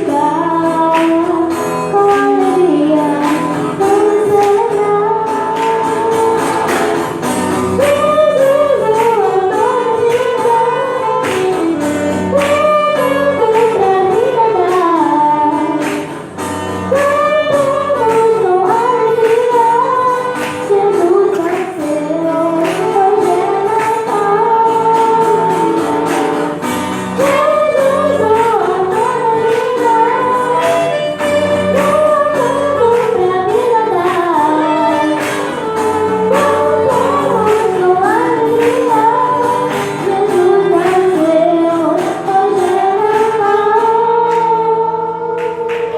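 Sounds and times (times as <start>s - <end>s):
instrumental accompaniment with beat: 0.0s - 45.9s
woman singing: 0.0s - 45.9s.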